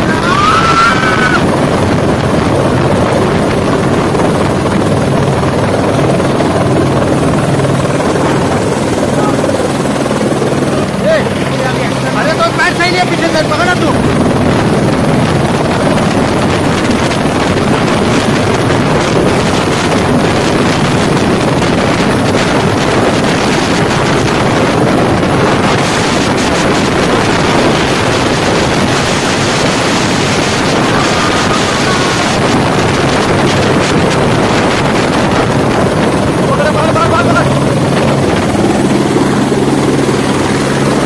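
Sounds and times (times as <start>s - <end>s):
engine-like drone: 0.0s - 41.0s
wind buffeting microphone: 0.0s - 41.0s.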